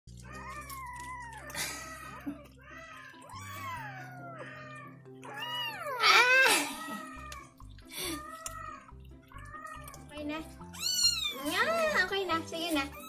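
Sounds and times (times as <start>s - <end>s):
kitten yowling: 0.2s - 10.1s, 10.7s - 11.9s.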